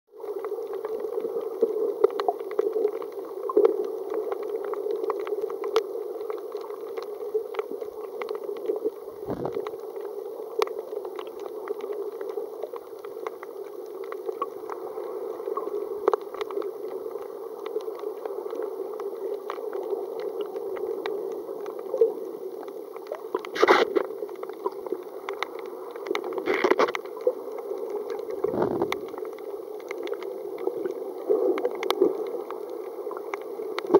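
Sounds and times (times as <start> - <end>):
small crackling clicks underwater: 0.1 - 33.9
water swishes: 0.2 - 33.9
muffled underwater rush: 3.1 - 33.9.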